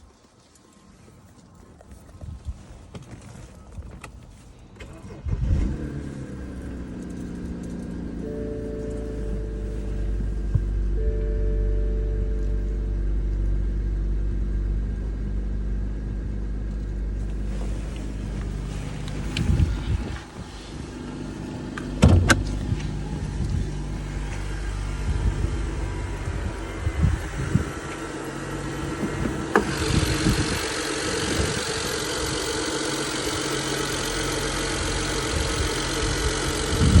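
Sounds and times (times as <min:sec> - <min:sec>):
car engine idling: 0:04.7 - 0:37.0.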